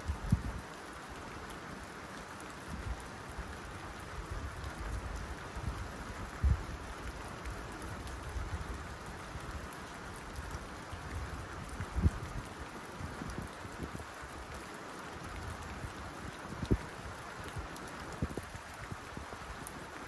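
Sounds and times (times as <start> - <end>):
rain on a tin roof: 0.0 - 20.0.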